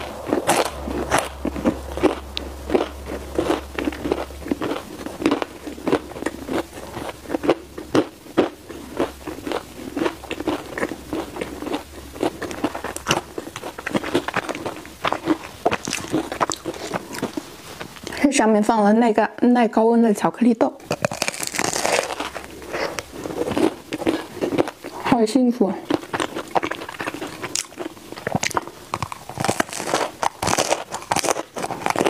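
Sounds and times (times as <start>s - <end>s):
crunchy sticky chewing: 0.0s - 18.2s, 20.8s - 32.0s.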